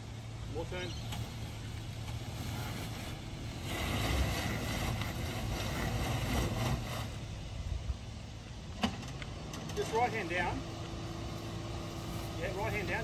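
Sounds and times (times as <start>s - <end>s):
car engine low rumble: 0.0s - 13.0s
wind and tyre noise: 0.0s - 13.0s.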